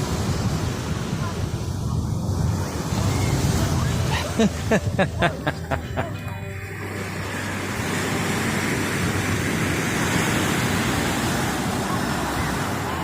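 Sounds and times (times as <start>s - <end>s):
ocean surf wave: 0.0s - 13.0s.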